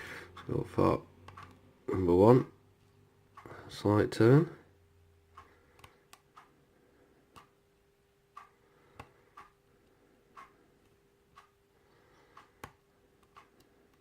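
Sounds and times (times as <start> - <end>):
clock ticking softly: 1.2 - 2.6, 3.3 - 7.6, 8.3 - 14.0.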